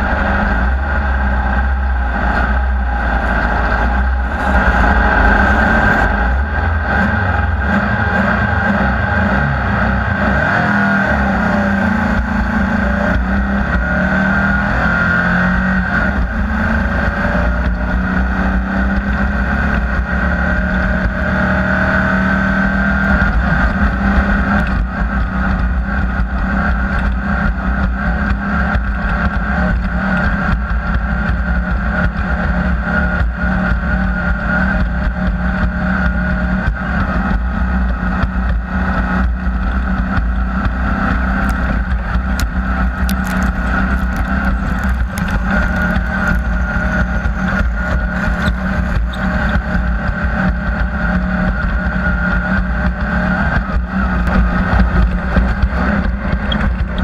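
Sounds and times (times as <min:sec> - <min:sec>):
race vehicle engine running hard: 0:00.0 - 0:57.0.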